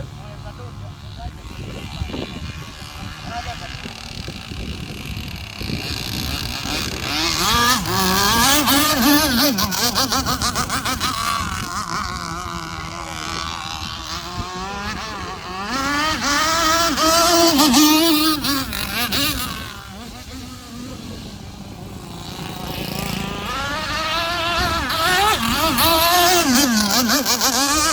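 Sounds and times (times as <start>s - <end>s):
model boat engine revving: 0.0s - 27.9s.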